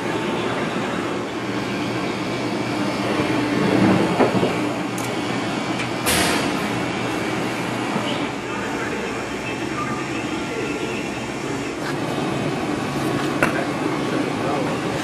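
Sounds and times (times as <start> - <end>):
heavy machinery rumbling: 0.0 - 15.0.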